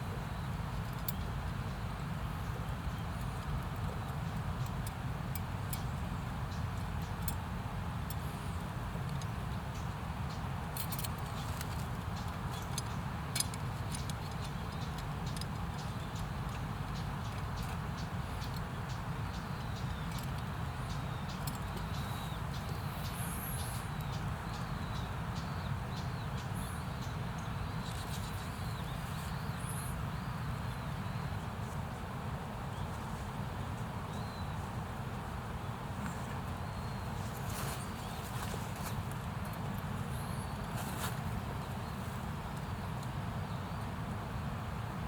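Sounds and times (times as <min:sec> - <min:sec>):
small birds chirping: 0:00.0 - 0:31.8, 0:36.0 - 0:44.0
outdoor rumble and hiss: 0:00.0 - 0:45.0.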